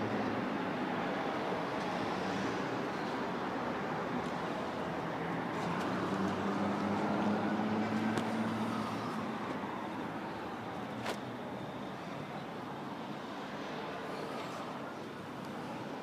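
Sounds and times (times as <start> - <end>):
city traffic noise: 0.0 - 16.0.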